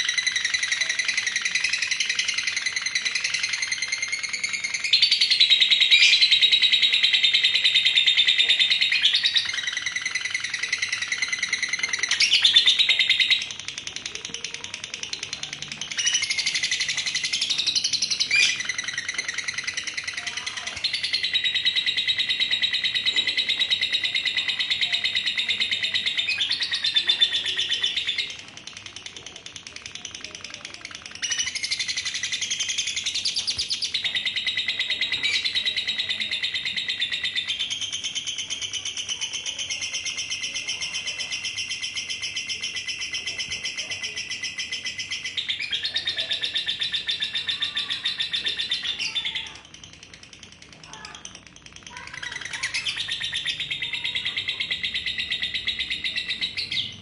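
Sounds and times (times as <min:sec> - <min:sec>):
lovebird high-pitched chattering trill: 0:00.0 - 0:57.0.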